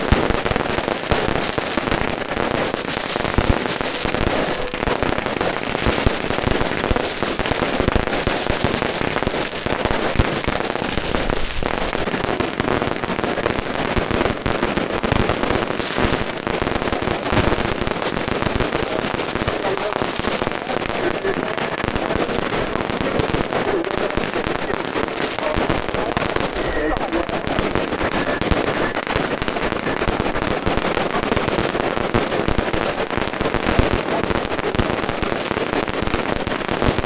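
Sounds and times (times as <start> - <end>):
firecrackers going off: 0.0 - 37.0.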